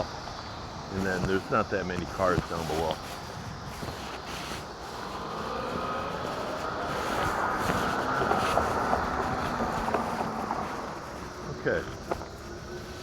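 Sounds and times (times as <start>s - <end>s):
tyre and road rumble: 0.0s - 13.0s
electric motor whine: 0.7s - 13.0s.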